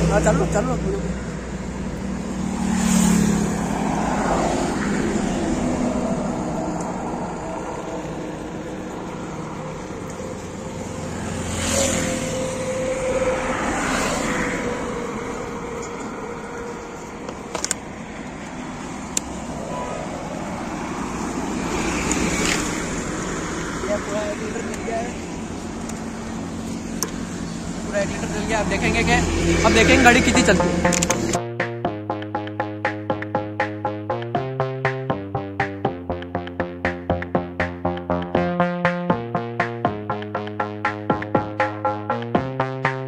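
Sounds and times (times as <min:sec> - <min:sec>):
highway traffic passing: 0:00.0 - 0:43.0.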